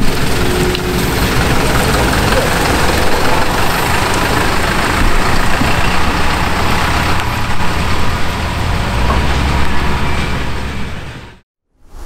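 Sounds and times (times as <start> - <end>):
minibus driving slowly: 0.0 - 11.4.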